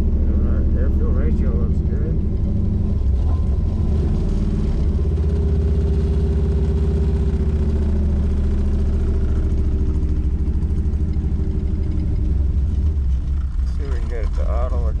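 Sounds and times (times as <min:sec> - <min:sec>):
lopey engine idle: 0:00.0 - 0:15.0.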